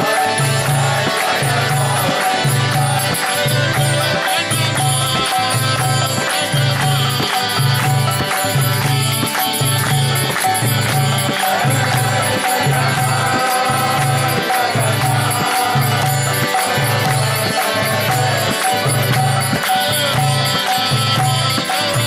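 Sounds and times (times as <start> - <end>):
jingling hand percussion: 0.0 - 22.0
people chanting to music: 0.0 - 22.0.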